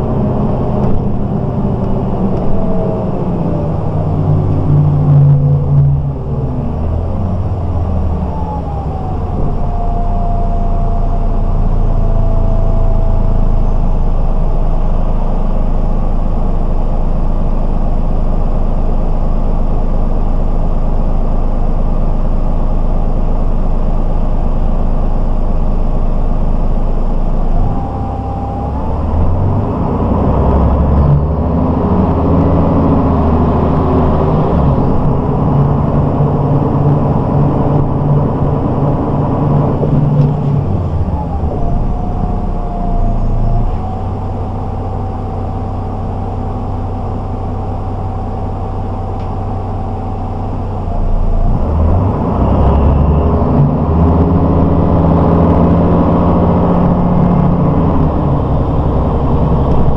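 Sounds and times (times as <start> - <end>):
bus diesel engine running: 0.0 - 59.9
thin whine: 0.0 - 59.9.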